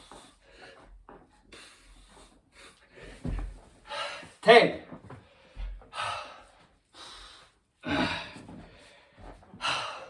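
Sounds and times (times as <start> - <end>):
man breathing hard: 0.0 - 4.4, 5.2 - 10.0.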